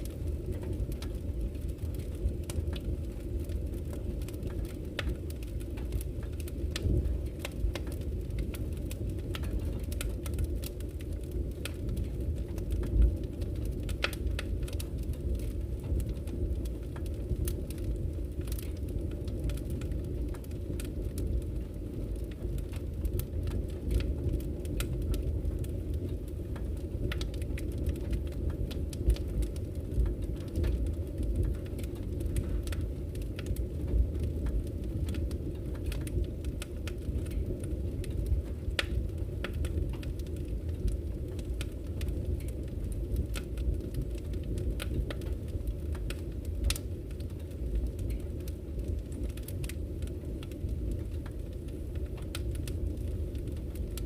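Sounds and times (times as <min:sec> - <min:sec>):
burning logs crackling and popping: 0:00.0 - 0:54.0
low rumble of flames: 0:00.0 - 0:54.0.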